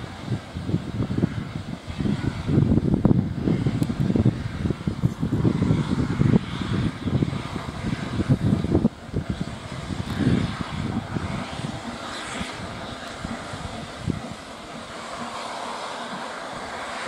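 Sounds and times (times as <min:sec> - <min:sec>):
steam hissing: 0:00.0 - 0:17.0
steam locomotive exhaust beats: 0:00.0 - 0:17.0.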